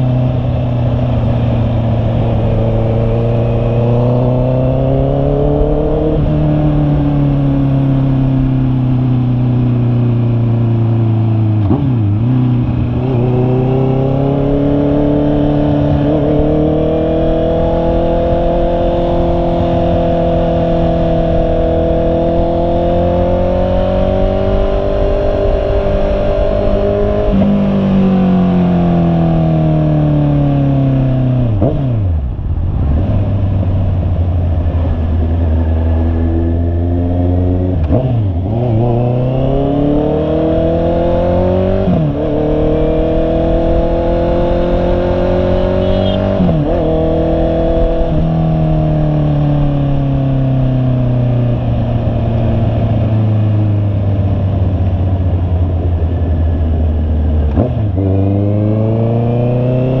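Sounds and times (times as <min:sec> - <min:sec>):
motorcycle engine revving: 0:00.0 - 1:00.0
wind and road noise: 0:00.0 - 1:00.0.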